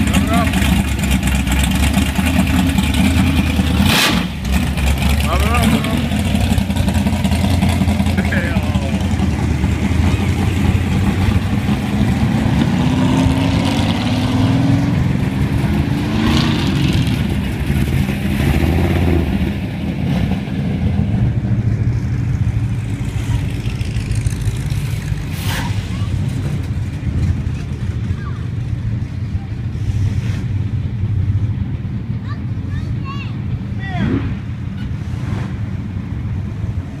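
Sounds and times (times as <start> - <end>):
car engines rumbling past: 0.0 - 37.0.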